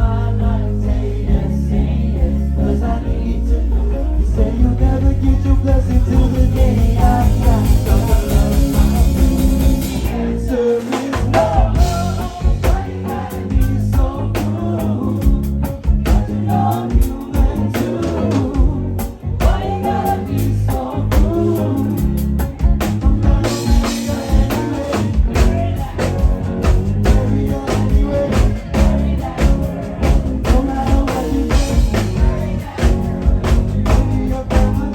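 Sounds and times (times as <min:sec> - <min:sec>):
live band with singing: 0:00.0 - 0:34.9.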